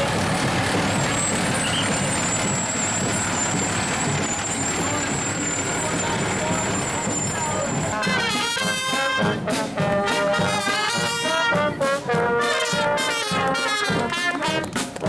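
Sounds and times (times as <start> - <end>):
trumpets and trombones melody: 0.8 - 15.0.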